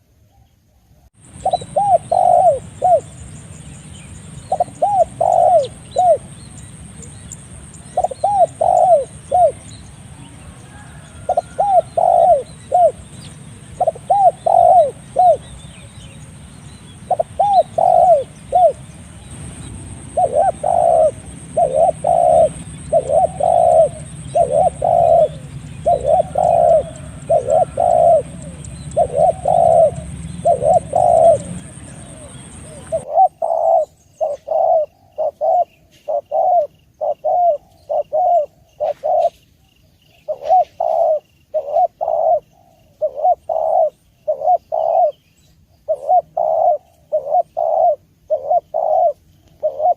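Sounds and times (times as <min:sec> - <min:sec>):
background hiss and rumble: 0:00.0 - 0:49.9
dove cooing: 0:01.3 - 0:03.6, 0:04.2 - 0:16.2, 0:16.9 - 0:19.0, 0:19.8 - 0:39.4, 0:40.1 - 0:45.2, 0:45.8 - 0:49.9.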